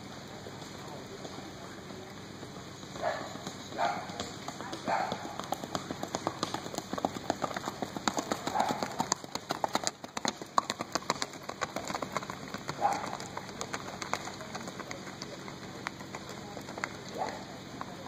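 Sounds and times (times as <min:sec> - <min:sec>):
hoofbeats on packed dirt: 0:00.0 - 0:18.0.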